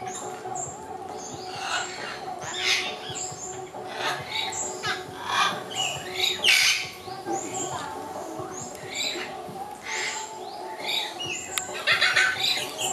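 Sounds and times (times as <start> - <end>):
birds chirping and calling: 0.0 - 12.9.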